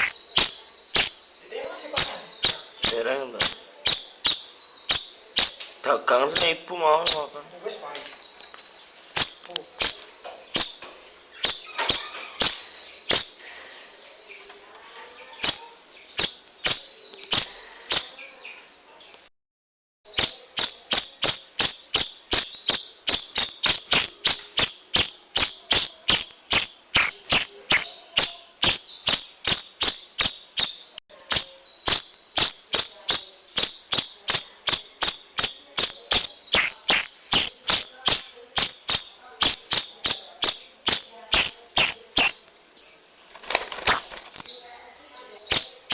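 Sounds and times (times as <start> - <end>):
bird chirping: 0.0 - 19.3, 20.1 - 45.9.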